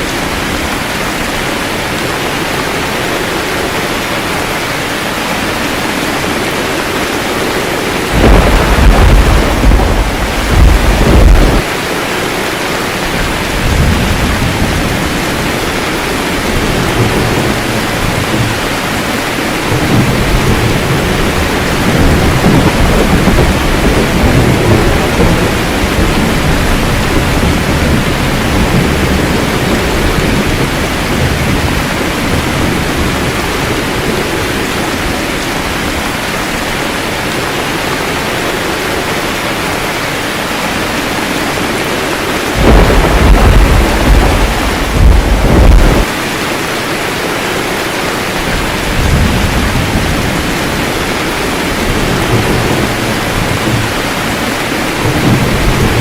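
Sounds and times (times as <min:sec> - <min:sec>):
thunder rumbling: 0:00.0 - 0:46.3, 0:47.0 - 0:56.0
steady rain: 0:00.0 - 0:56.0.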